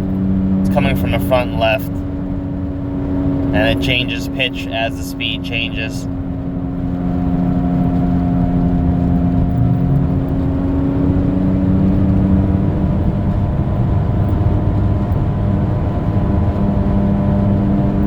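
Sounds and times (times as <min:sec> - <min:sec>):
road and drivetrain noise: 0:00.0 - 0:18.0.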